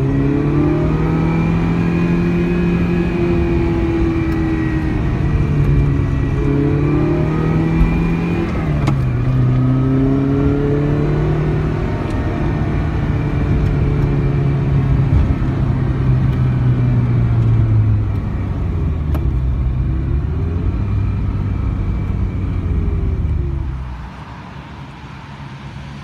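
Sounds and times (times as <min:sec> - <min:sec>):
car engine from inside cabin: 0:00.0 - 0:26.0
road noise: 0:00.0 - 0:26.0.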